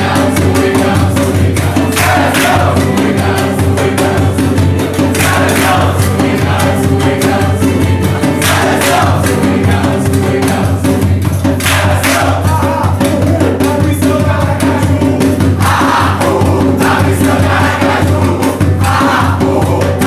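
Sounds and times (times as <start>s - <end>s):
group singing upbeat song: 0.0s - 20.0s
steady percussion beat: 0.0s - 20.0s.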